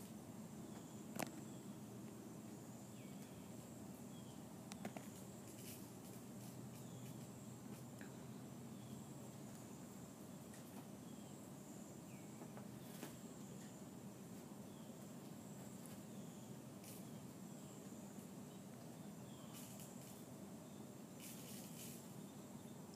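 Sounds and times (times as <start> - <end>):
faint background hiss: 0.0 - 22.9.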